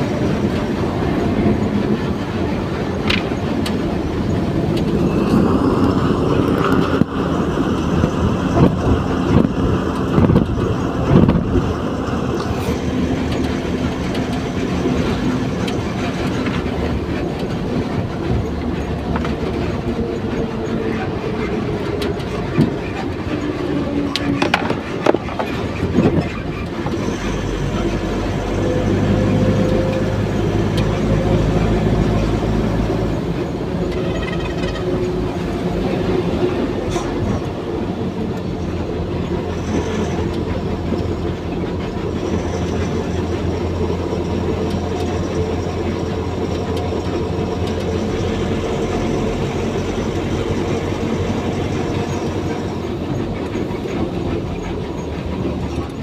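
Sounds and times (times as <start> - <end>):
heavy vehicle rumbling: 0.0 - 56.0.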